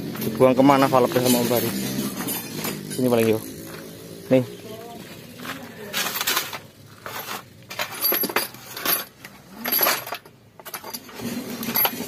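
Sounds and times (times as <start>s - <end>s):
metal engine parts clinking: 0.0s - 3.9s, 5.4s - 12.0s.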